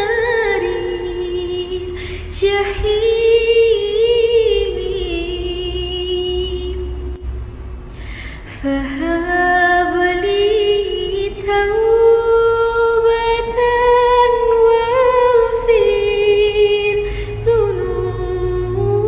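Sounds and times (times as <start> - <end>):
boy singing devotional song: 0.0 - 7.1, 8.4 - 19.0.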